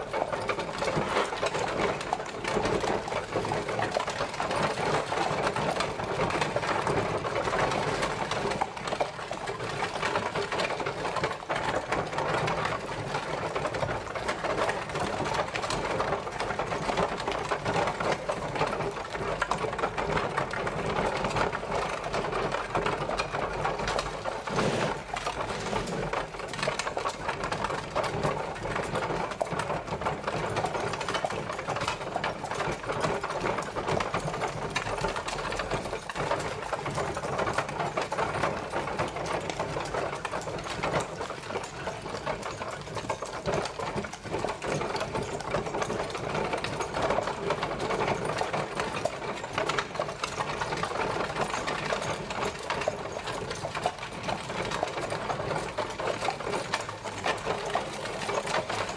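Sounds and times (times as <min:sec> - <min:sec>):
horse-drawn carriage rattling: 0:00.0 - 0:58.9.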